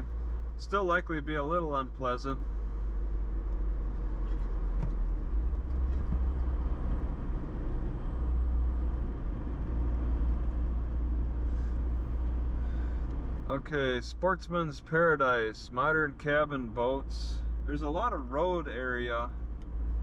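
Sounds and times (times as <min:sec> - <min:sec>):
car engine and tyre drone: 0:00.0 - 0:20.0.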